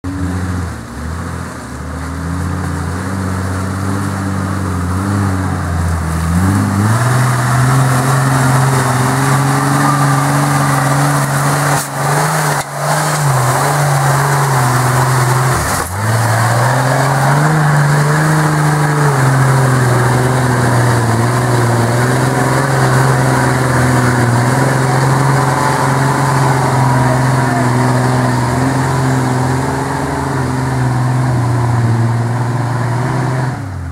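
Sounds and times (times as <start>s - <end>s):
engine revving hard: 2.4s - 33.8s.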